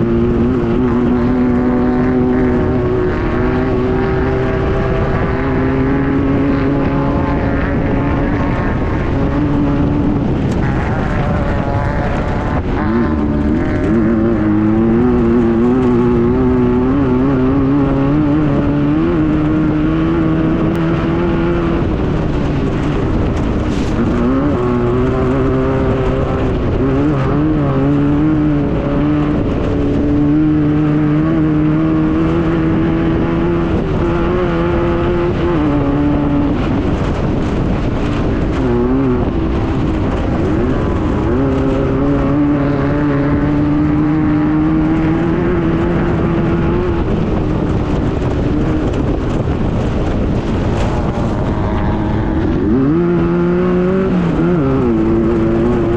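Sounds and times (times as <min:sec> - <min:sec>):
buggy engine running hard: 0:00.0 - 0:55.9
rattle and road noise: 0:00.0 - 0:55.9.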